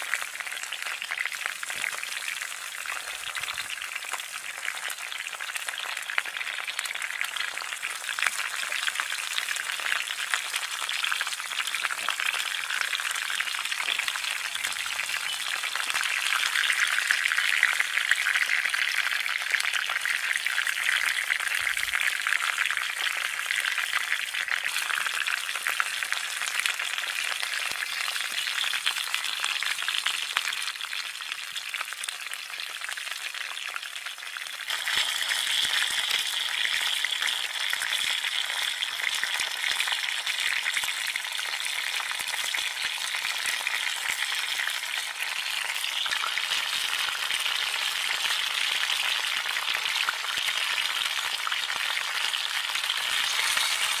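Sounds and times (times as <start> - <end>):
potatoes and onions sizzling in a skillet: 0.0 - 54.0.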